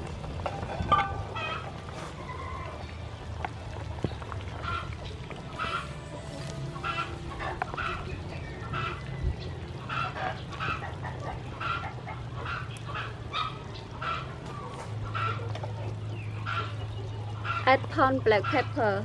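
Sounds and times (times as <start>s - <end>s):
waterfowl calling: 0.9s - 2.9s, 3.9s - 19.0s.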